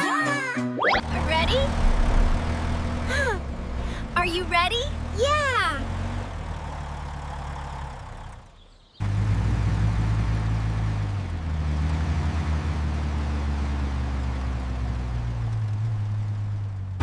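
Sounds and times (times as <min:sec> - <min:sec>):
truck engine rumble: 0:00.9 - 0:17.0.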